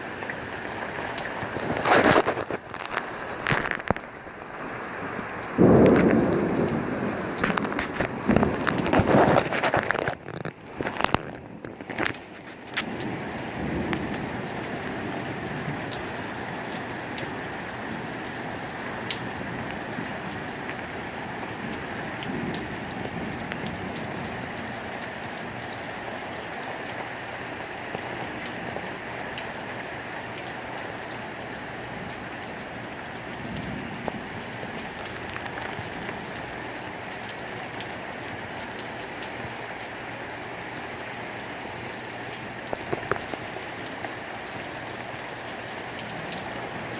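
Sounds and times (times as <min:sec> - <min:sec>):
rain falling: 0:00.0 - 0:46.9.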